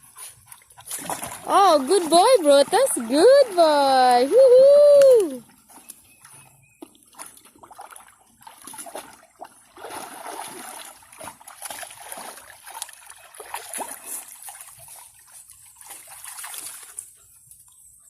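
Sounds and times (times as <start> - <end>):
water splashing by swimming puppy: 0.0 - 18.0.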